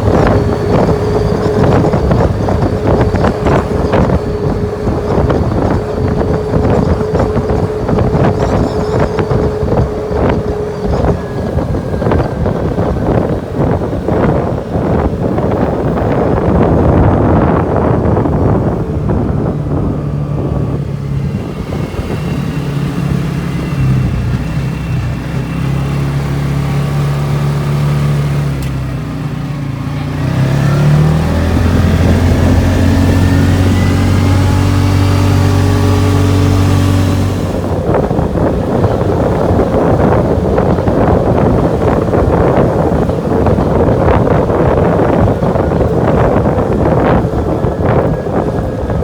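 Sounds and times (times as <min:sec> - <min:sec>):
four-wheeler engine running: 0:00.0 - 0:49.0.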